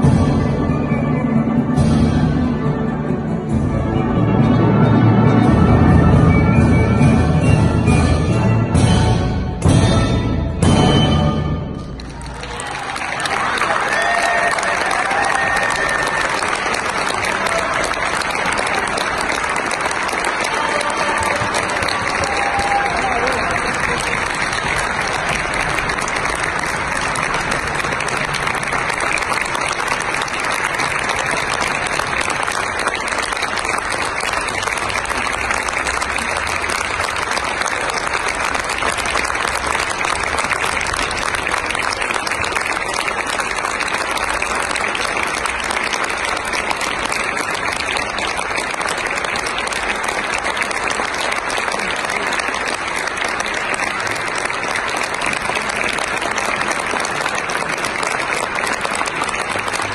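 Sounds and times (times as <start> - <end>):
audience applauding: 11.5 - 59.9.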